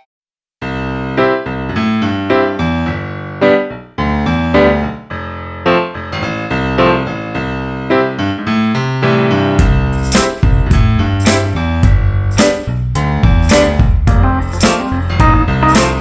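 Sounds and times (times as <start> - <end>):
piano background music: 0.6 - 16.0.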